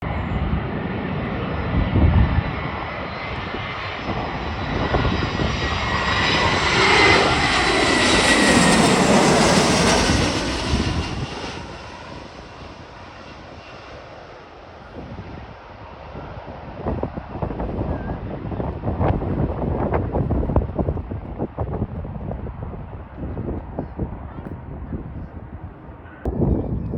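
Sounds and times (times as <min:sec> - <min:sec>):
wind buffeting microphone: 0:00.0 - 0:14.2, 0:14.8 - 0:26.9
airliner passing with whine: 0:00.0 - 0:26.5.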